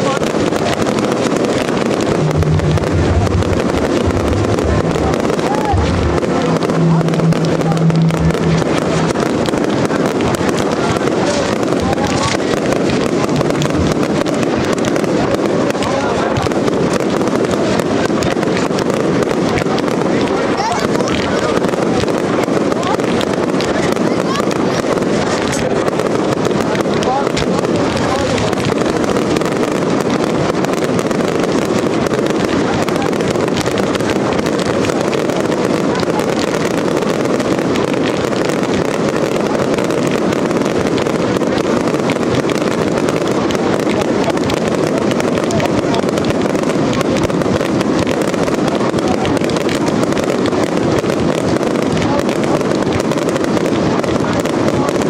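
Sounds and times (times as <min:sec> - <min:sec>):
fireworks crackling and bursting: 0:00.0 - 0:55.0.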